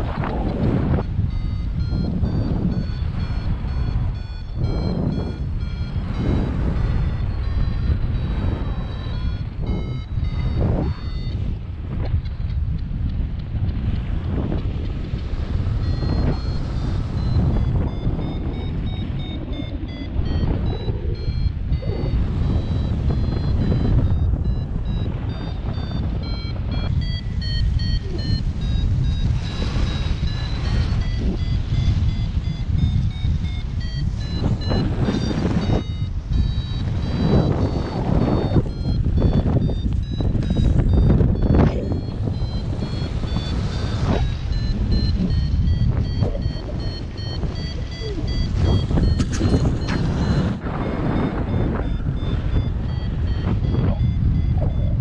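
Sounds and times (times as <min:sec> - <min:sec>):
wind rushing over microphone: 0:00.0 - 0:55.0
short high beeps: 0:00.9 - 0:11.6, 0:15.7 - 0:55.0.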